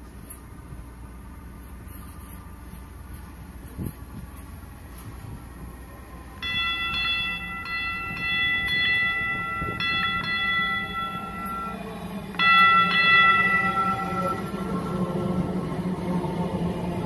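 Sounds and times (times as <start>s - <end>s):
low rumble of train: 0.0s - 17.0s.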